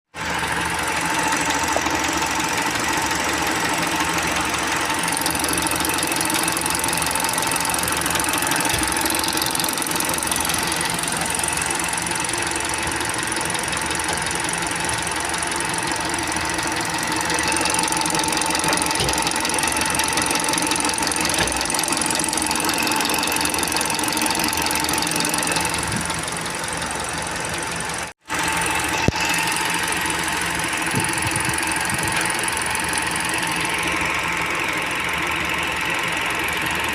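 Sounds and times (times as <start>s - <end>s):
car engine idling with tappet ticking: 0.2s - 36.9s.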